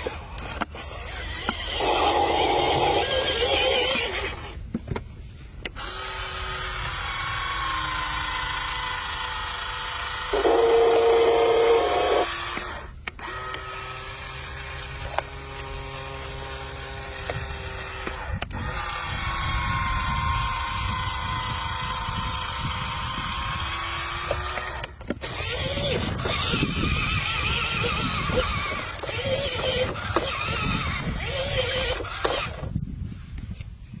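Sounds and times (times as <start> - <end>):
cartoon construction vehicle engines: 0.0 - 4.6, 5.6 - 32.8.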